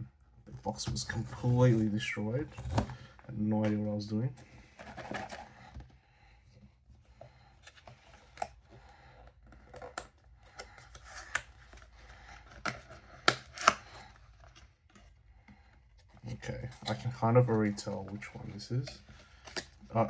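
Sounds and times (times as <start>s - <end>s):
cardboard box handled and opened: 0.5s - 6.0s, 7.0s - 20.0s.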